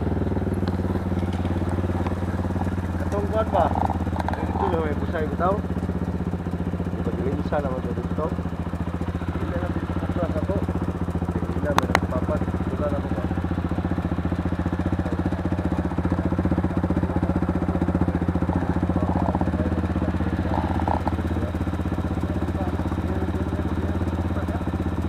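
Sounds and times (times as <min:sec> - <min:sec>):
small motorcycle engine idling: 0:00.0 - 0:25.0.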